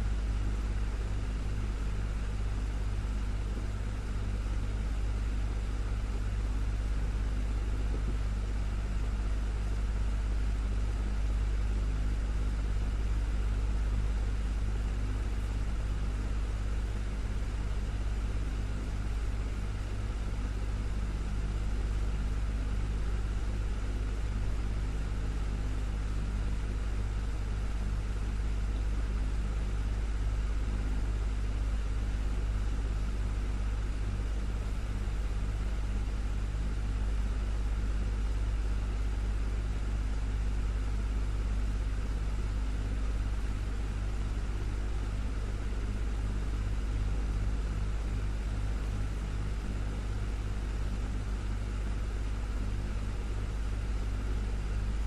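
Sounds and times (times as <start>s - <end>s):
desktop fan humming: 0.0s - 55.0s.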